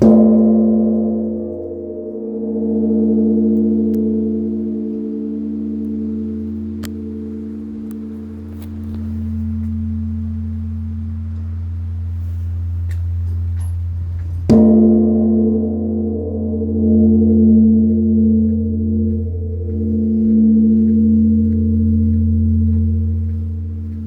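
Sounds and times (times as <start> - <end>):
large bronze bell ringing: 0.0 - 24.0.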